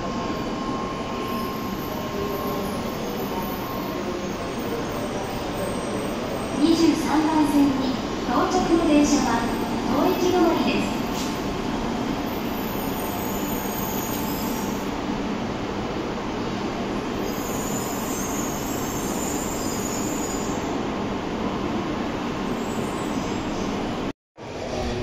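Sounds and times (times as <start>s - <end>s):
high-speed train rushing: 0.0s - 25.0s.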